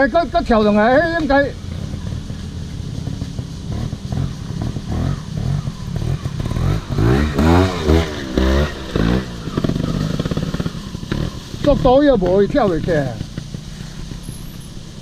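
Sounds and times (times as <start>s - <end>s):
motorcycle engine revving: 0.0s - 15.0s
clatter: 0.2s - 15.0s.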